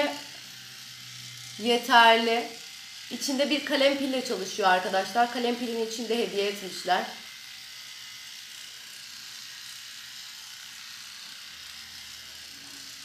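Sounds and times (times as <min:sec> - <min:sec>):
facial cleansing brush whirring: 0:00.0 - 0:13.0.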